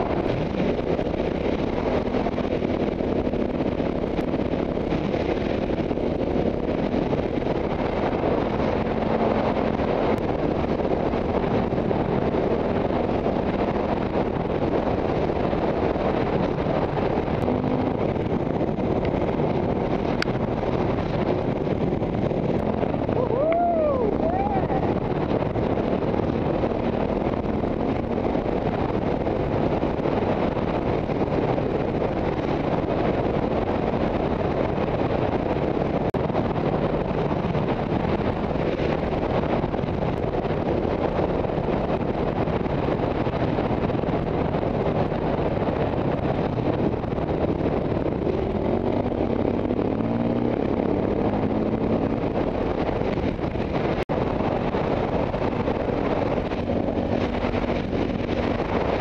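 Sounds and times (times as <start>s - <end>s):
wind buffeting on microphone: 0.0s - 59.0s.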